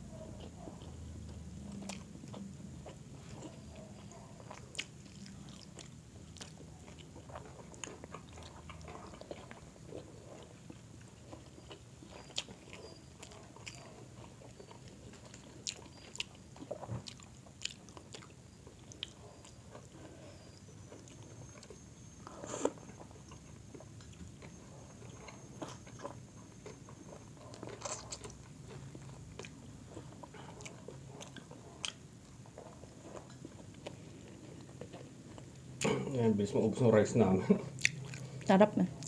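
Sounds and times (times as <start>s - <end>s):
biting and chewing food: 0.4s - 36.0s, 37.7s - 39.0s.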